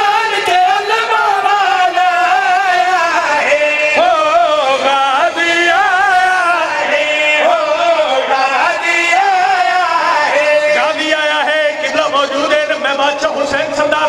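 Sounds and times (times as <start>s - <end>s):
men singing through microphones: 0.0s - 14.0s.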